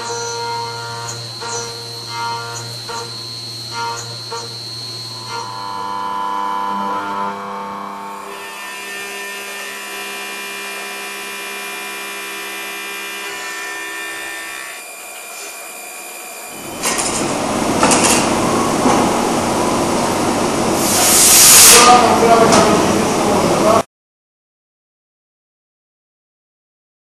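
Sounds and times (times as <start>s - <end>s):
milling machine whine: 0.0s - 23.8s
loud rough machine noise: 0.0s - 23.9s.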